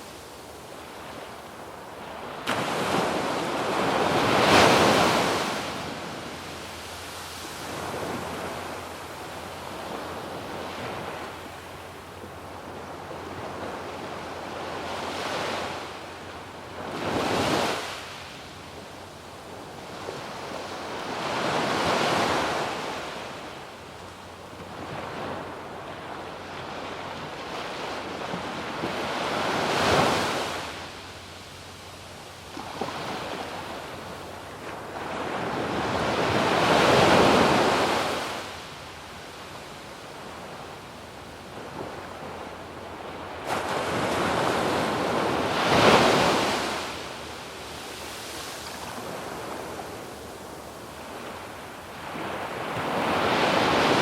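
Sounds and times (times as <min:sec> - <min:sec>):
light wind: 0:00.0 - 0:54.0
waves breaking on beach: 0:00.0 - 0:54.0.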